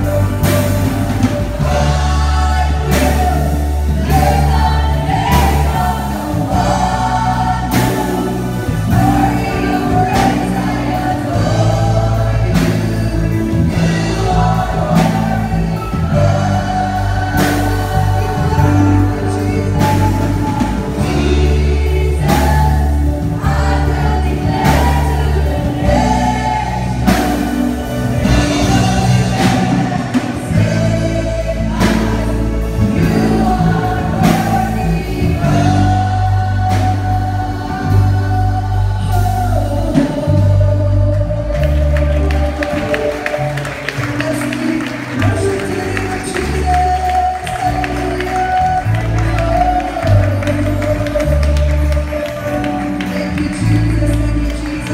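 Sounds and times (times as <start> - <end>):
accompaniment with bass and beat: 0.0 - 54.9
women's group singing gospel: 0.0 - 54.9
woman singing into microphone: 1.5 - 43.6, 44.2 - 54.9.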